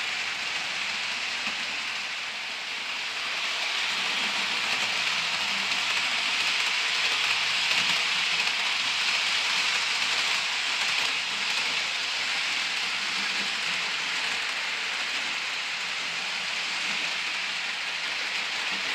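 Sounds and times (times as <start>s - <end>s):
model train wheels rattling: 0.0s - 18.9s.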